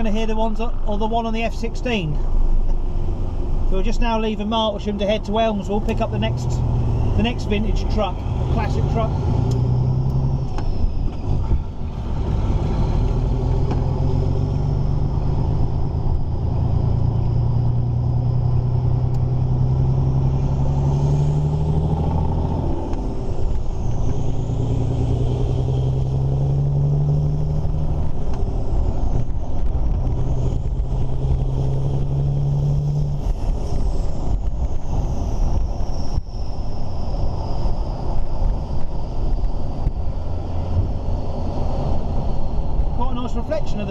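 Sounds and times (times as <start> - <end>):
diesel truck engine pulling hard: 0.0 - 43.9.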